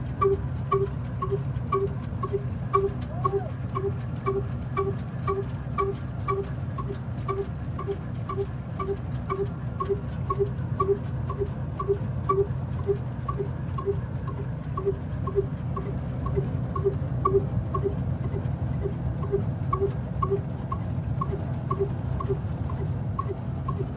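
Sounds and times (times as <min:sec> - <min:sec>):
old diesel engine knocking: 0:00.0 - 0:23.9.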